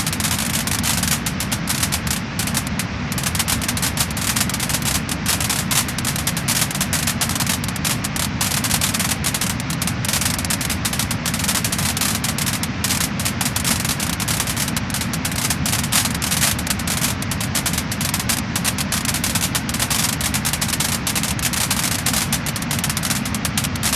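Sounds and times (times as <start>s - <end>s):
steady hiss and low rumble: 0.0s - 23.9s
wood fire crackling and popping: 0.0s - 23.9s.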